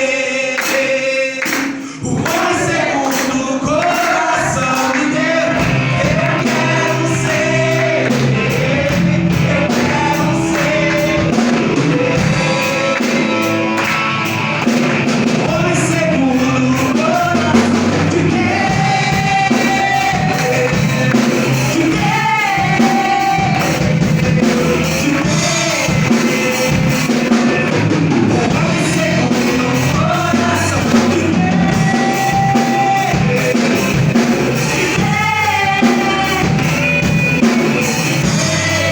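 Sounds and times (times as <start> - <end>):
accompanying instruments: 0.0 - 38.9
drum kit: 0.0 - 38.9
people singing gospel song: 0.0 - 38.9.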